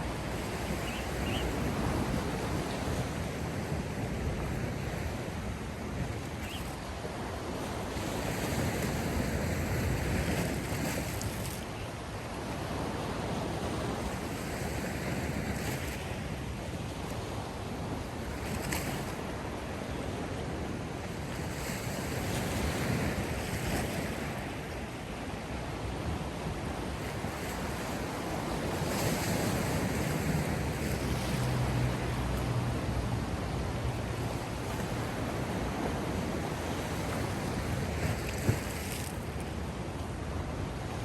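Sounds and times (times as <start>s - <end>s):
sea waves breaking: 0.0s - 41.0s.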